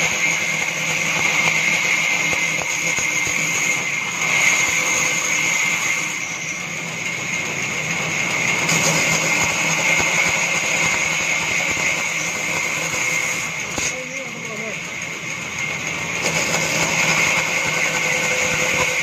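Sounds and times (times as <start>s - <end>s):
band saw cutting wood: 0.0s - 19.0s.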